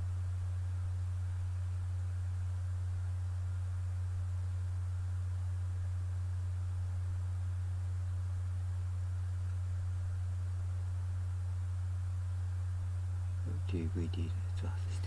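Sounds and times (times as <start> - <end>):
low electrical mains hum: 0.0 - 15.0.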